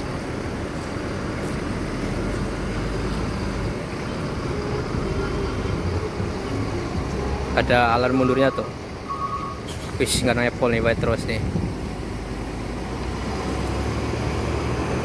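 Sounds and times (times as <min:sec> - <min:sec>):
diesel bus engine rumbling: 0:00.0 - 0:15.0.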